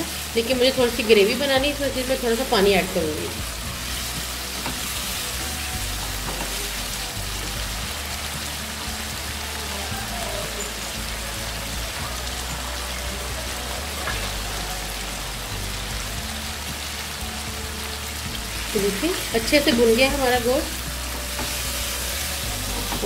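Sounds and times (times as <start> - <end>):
sizzling hiss in a wok: 0.0 - 23.0.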